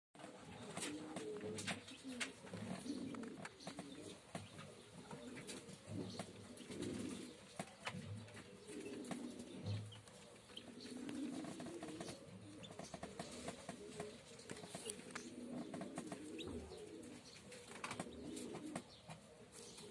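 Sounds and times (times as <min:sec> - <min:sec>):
pigeon cooing: 0:00.2 - 0:19.9.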